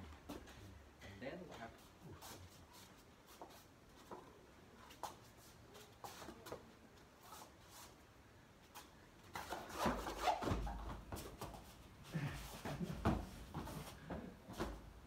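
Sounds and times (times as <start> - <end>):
feet scuffling on foam mats: 1.8 - 8.0, 8.6 - 14.9.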